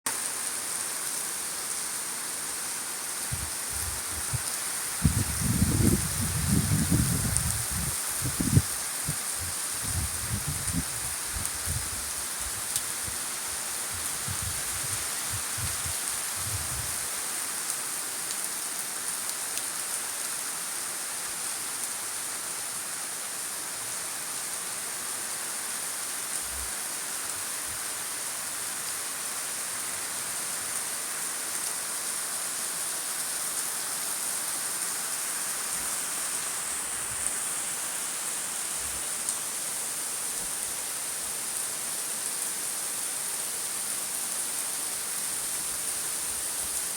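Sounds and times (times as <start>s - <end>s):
rain falling on surfaces: 0.1s - 46.9s.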